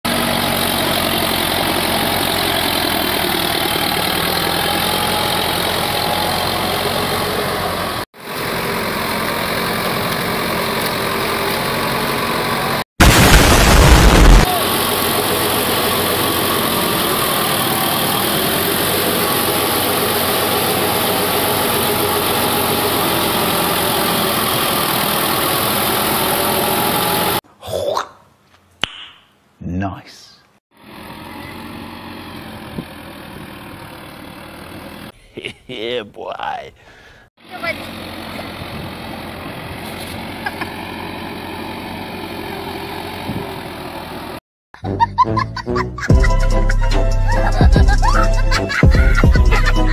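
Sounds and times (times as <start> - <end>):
tiller engine running: 0.1 - 27.4, 30.7 - 35.2, 37.4 - 44.4, 46.0 - 49.9.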